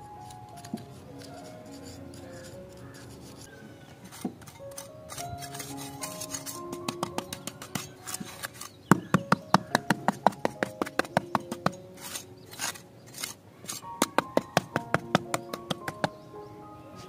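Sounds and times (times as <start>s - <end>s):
light background music: 0.0s - 17.0s
trowel scraping soil: 0.2s - 16.2s
trowel tapping: 0.6s - 16.2s.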